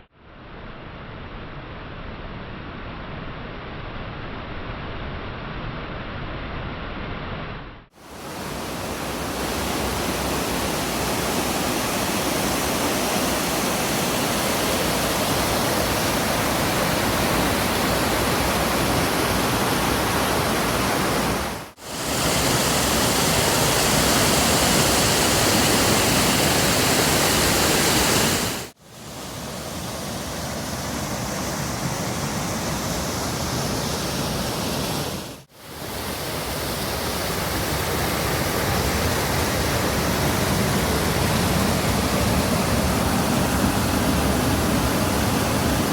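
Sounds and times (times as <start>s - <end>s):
waterfall rushing: 8.0s - 45.9s.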